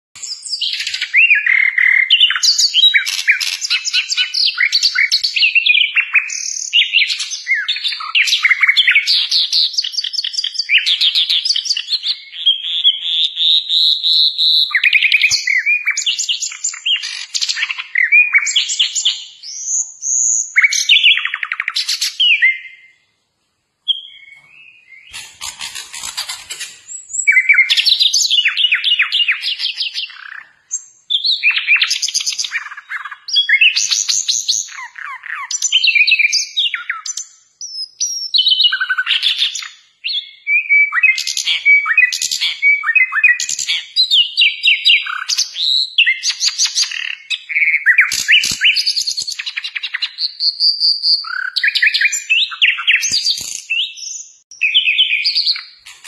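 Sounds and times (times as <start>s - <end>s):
bird singing trills and whistles: 0.2s - 23.1s, 23.8s - 56.0s.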